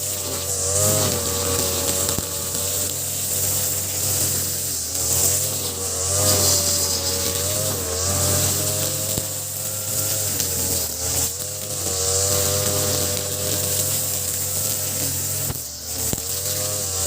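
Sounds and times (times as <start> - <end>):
brush cutter running at high revs: 0.0 - 17.0.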